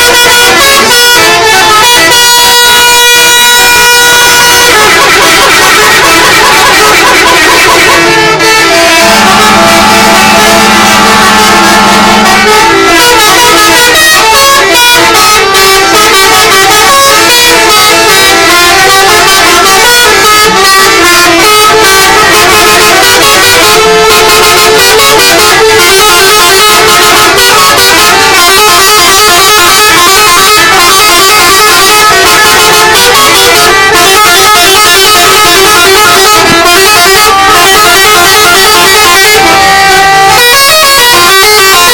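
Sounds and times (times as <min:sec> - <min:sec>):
musical bus horns: 0:00.0 - 0:41.9.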